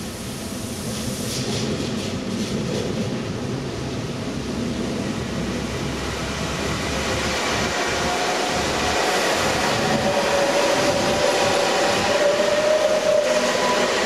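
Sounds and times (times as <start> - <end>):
high-speed train running past: 0.0 - 14.0.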